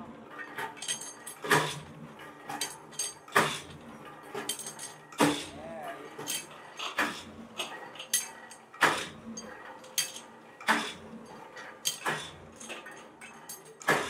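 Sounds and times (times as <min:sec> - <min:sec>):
metal rods clanking together: 0:00.5 - 0:01.8, 0:02.4 - 0:14.0.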